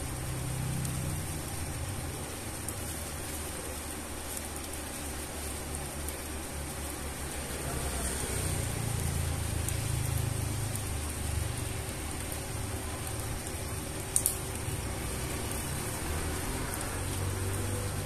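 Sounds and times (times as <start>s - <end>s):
rain on concrete: 0.0s - 18.0s.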